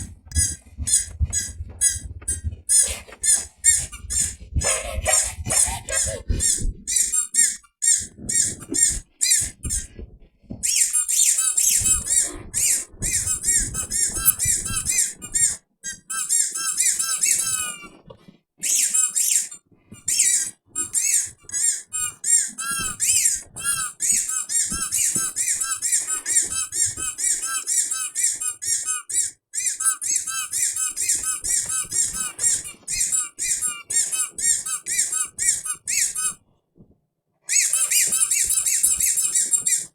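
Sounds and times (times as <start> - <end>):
rapid high-pitched squeaks: 0.0 - 10.0, 10.6 - 18.0, 18.6 - 36.4, 37.5 - 39.9.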